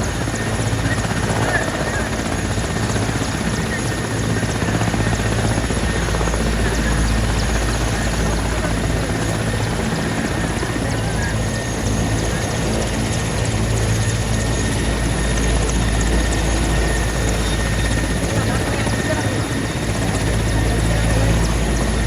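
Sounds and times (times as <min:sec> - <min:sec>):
helicopter rotor and turbine: 0:00.0 - 0:22.0.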